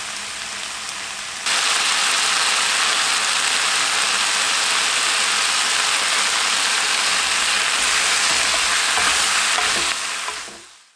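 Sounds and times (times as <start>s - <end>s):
pork sizzling in a frying pan: 0.0s - 10.9s.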